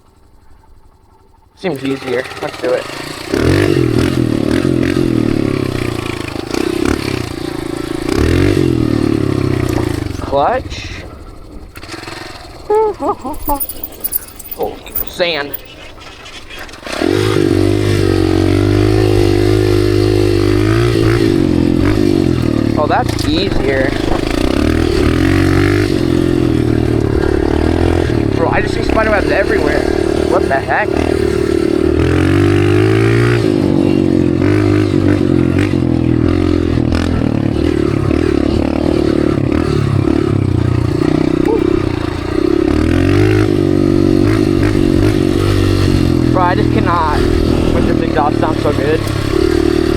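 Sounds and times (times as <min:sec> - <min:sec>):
dirt bike engine under throttle: 0:00.0 - 0:49.9.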